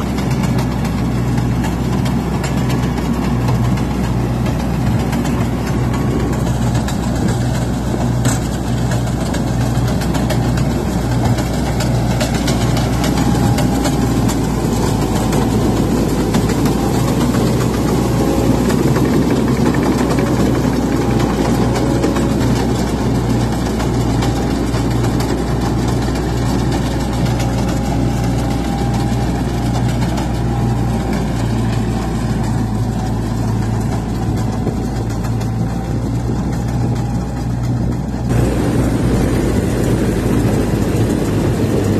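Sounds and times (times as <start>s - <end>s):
combine harvester engine droning: 0.0s - 41.9s.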